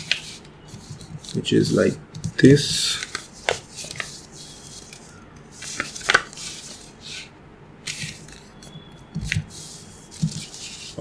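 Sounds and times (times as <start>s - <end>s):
paper rustling and crinkling: 0.0s - 7.3s, 7.9s - 11.0s.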